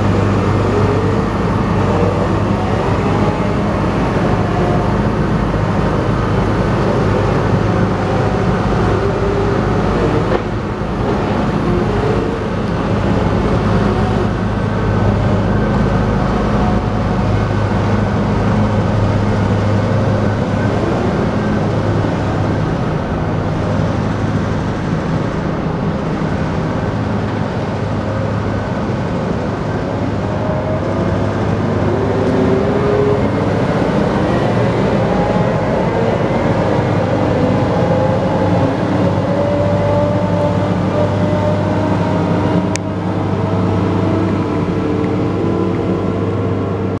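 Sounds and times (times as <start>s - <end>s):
diesel engine running: 0.0s - 47.0s
whine gliding in pitch: 0.0s - 47.0s.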